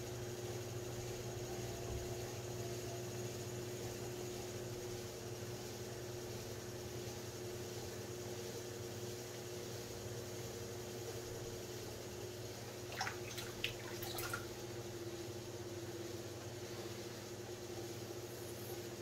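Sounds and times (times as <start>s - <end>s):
pottery wheel humming: 0.0s - 19.0s.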